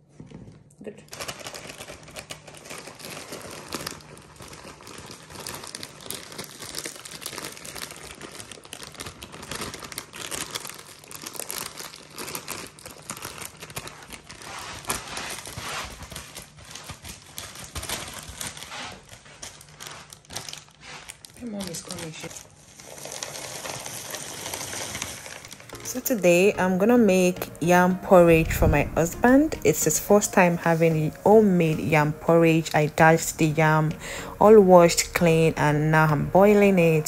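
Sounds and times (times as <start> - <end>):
plastic bag crinkling and rustling: 0.0 - 37.0.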